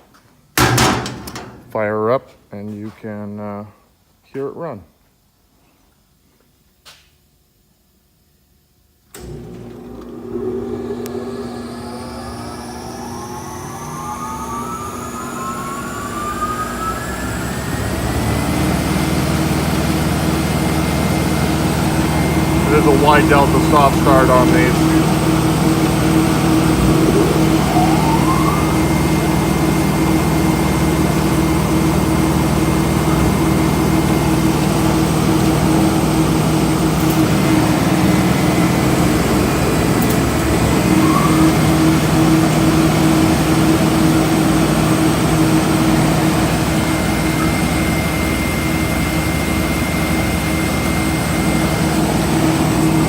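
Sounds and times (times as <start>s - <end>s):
planer sander humming: 9.2s - 53.0s.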